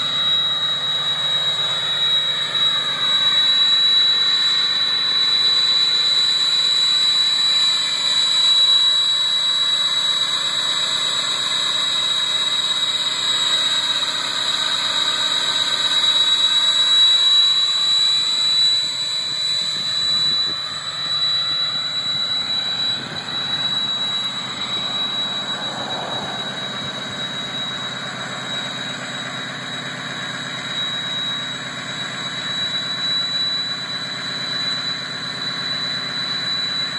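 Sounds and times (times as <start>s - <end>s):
engine running at high idle: 0.0s - 36.9s
high-pitched turbo whistle: 0.0s - 36.9s.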